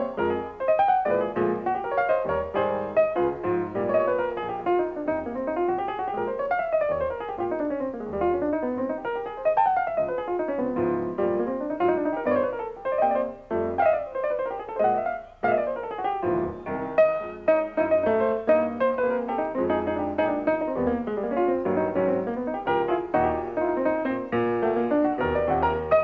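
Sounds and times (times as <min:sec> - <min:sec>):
piano music with quick runs: 0:00.0 - 0:26.0.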